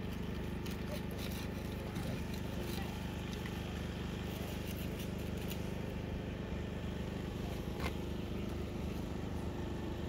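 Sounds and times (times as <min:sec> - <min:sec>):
engine idling hum: 0:00.0 - 0:10.0.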